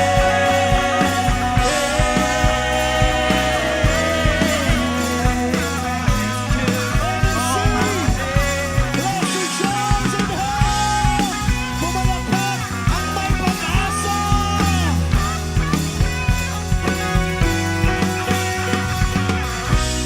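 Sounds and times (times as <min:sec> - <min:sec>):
pop-rock band playing: 0:00.0 - 0:20.0
steady drum beat: 0:00.0 - 0:20.0.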